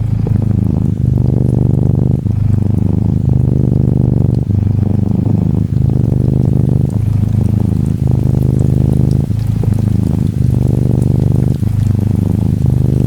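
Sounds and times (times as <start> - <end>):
faint rain patter: 0.0 - 13.0
kitten purring: 0.0 - 13.0.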